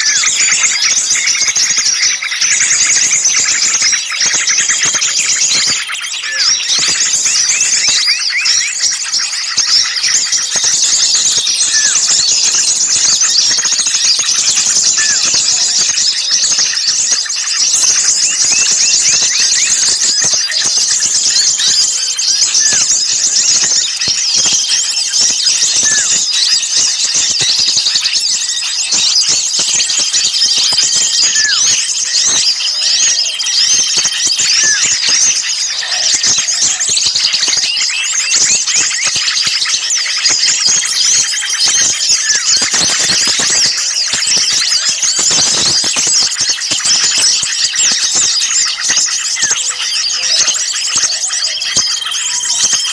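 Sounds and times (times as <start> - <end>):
lower repeated bird call: 0.0 - 52.9
songbirds chirping and trilling: 0.0 - 52.9.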